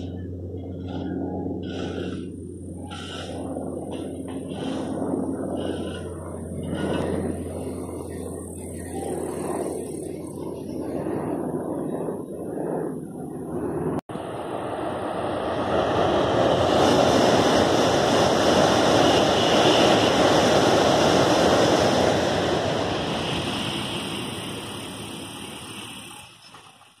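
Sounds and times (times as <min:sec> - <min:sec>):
bullet train passing at speed: 0:00.0 - 0:27.0.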